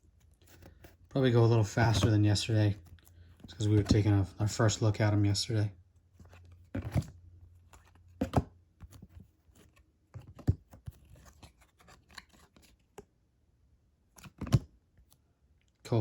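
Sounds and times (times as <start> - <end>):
cards handled: 0.0 - 4.9, 6.0 - 13.1, 14.1 - 15.2.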